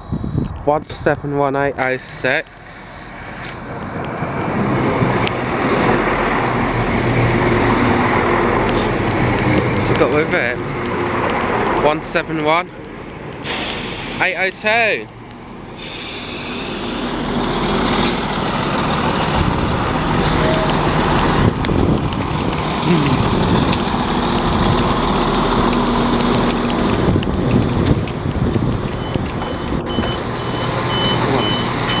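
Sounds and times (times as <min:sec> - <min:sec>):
diesel train engines droning: 0:00.0 - 0:32.0.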